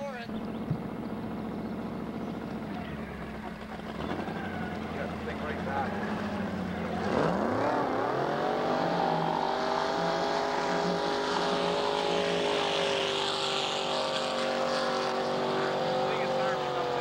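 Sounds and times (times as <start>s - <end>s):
boat engine revving: 0.0s - 17.0s.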